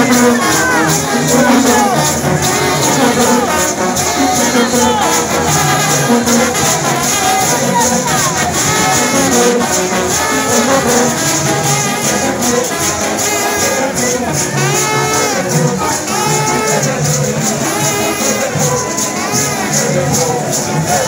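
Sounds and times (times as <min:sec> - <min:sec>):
crowd: 0:00.0 - 0:21.0
horns playing melody: 0:00.0 - 0:21.0
street band playing: 0:00.0 - 0:21.0.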